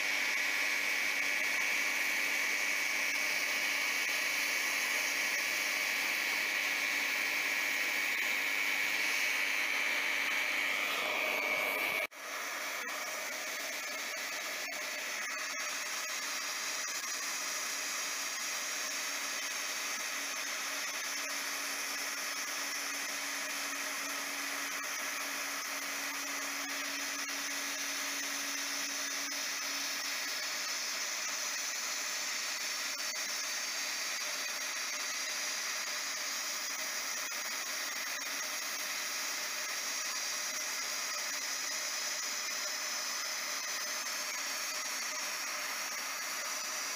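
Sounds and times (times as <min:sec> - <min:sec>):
hot-air welder blower rushing: 0:00.0 - 0:46.9.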